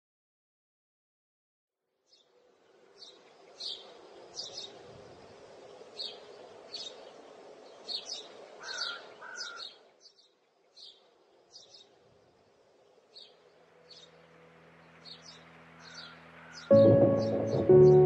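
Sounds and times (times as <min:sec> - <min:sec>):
small birds chirping: 0:02.1 - 0:18.0.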